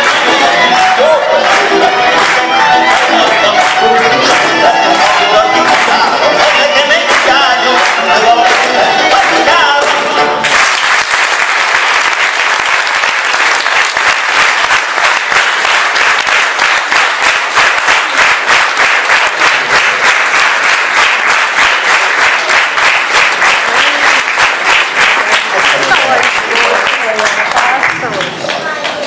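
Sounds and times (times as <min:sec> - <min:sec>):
live music: 0:00.0 - 0:10.8, 0:15.9 - 0:29.0
audience applause: 0:00.0 - 0:29.0.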